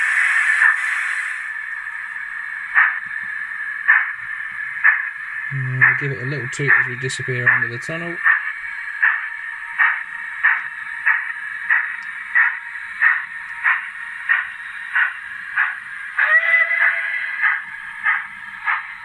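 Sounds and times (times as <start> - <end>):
model steam locomotive chuffs: 0.0 - 19.0.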